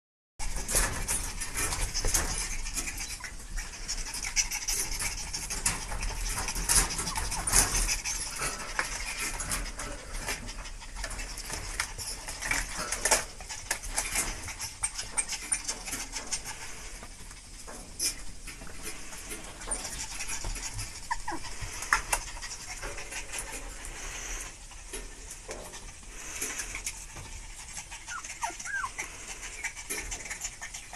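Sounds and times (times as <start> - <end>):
claws scratching wire cage: 0.5 - 30.9.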